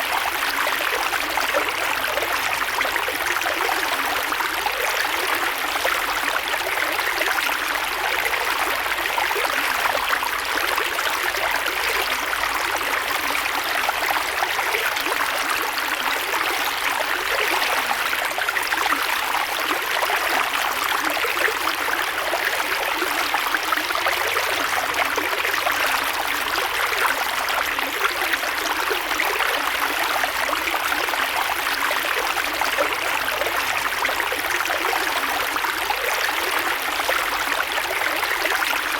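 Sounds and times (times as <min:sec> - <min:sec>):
creek water flowing over stones: 0:00.0 - 0:38.9.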